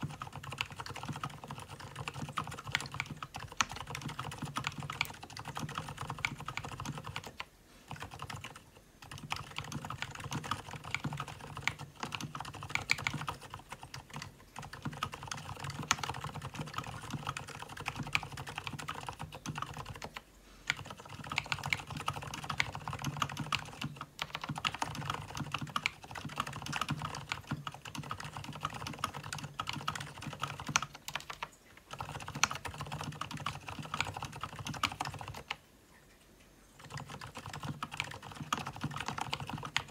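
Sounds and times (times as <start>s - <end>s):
fast typing on mechanical keyboard: 0.0s - 35.6s, 36.8s - 39.9s.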